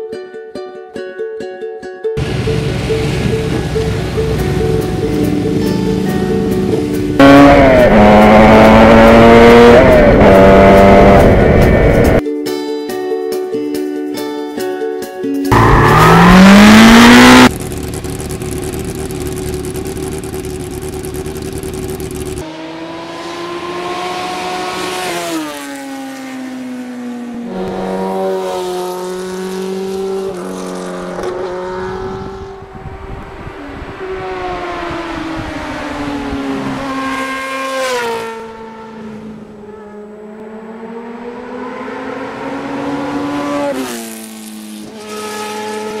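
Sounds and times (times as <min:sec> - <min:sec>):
motorcycle engine revving: 0:02.2 - 0:12.2, 0:15.5 - 0:46.0.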